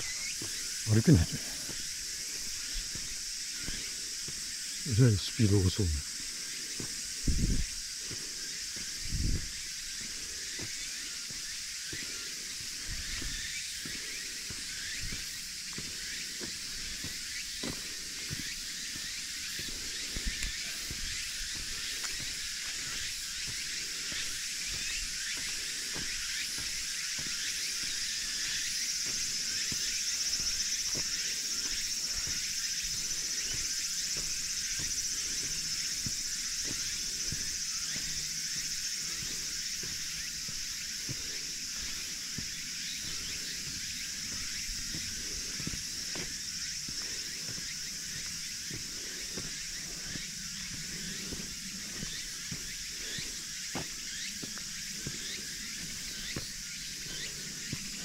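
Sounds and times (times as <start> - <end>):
cicadas singing: 0.0 - 58.0
footsteps on road: 0.0 - 58.0.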